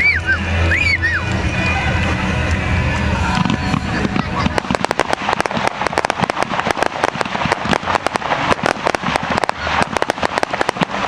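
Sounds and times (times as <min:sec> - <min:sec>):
fireworks crackling pops: 0:00.0 - 0:11.0
fireworks rumble: 0:00.0 - 0:11.0.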